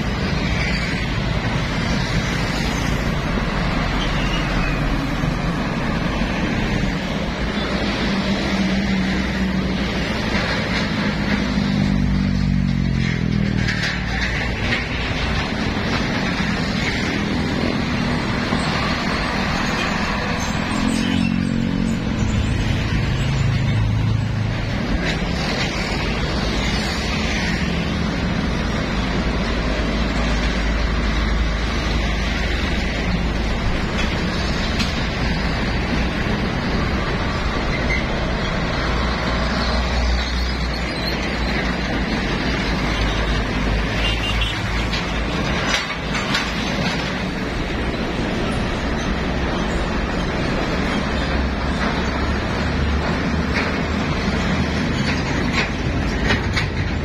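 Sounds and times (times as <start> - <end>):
heavy road traffic rumble: 0.0 - 57.0.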